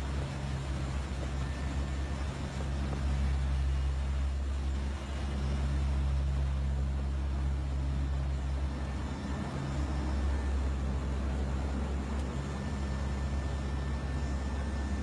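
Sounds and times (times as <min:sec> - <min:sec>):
air and rain rushing past: 0:00.0 - 0:15.0
turboprop engines droning: 0:00.0 - 0:15.0.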